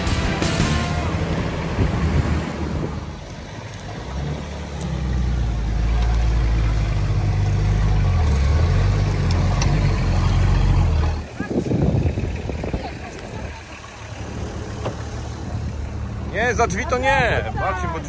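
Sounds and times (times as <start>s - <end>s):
off-road vehicle engine rumbling: 0.0s - 18.0s.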